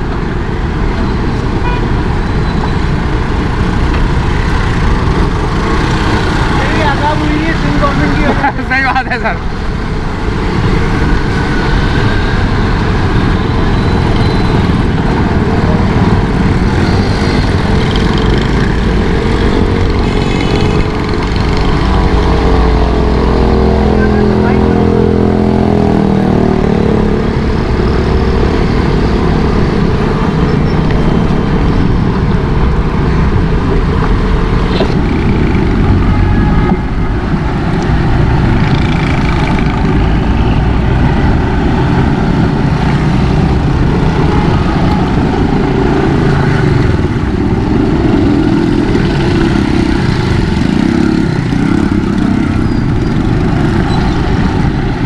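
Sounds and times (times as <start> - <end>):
motorcycle running: 0.0 - 55.0.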